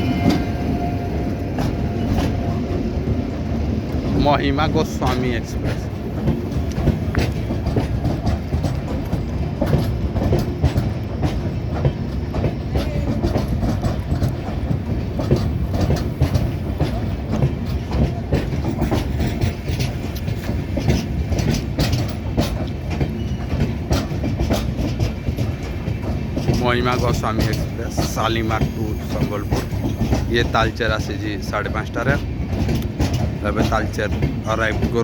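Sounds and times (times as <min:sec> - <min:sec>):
train wheels clickety-clack: 0:00.0 - 0:35.0.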